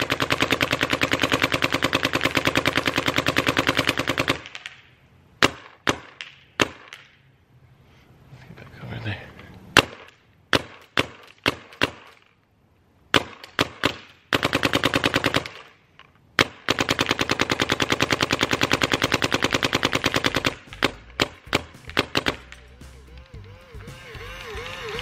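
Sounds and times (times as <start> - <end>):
paintball marker firing: 0.0 - 7.2, 9.8 - 12.4, 13.1 - 15.8, 16.4 - 25.0.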